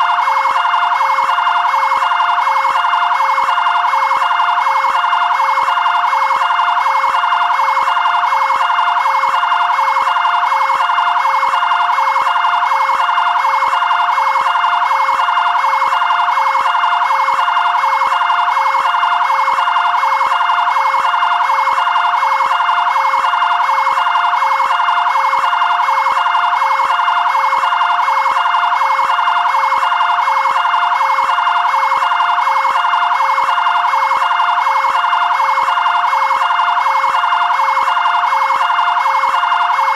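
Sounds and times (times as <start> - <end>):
two-tone siren: 0.0 - 39.9.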